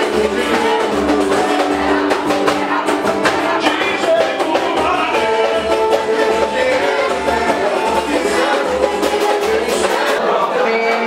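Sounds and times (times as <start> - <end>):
live band playing music: 0.0 - 11.0.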